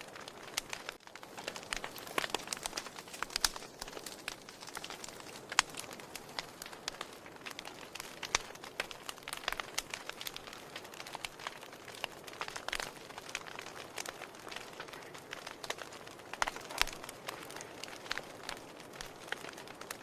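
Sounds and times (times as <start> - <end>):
logs crackling in fireplace: 0.0 - 20.0
sharp pops and snaps: 0.0 - 20.0
soft hiss of flames: 0.0 - 20.0.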